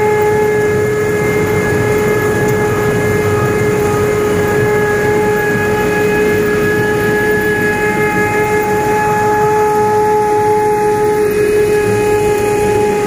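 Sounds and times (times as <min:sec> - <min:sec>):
threshing machine whining and rumbling: 0:00.0 - 0:13.0.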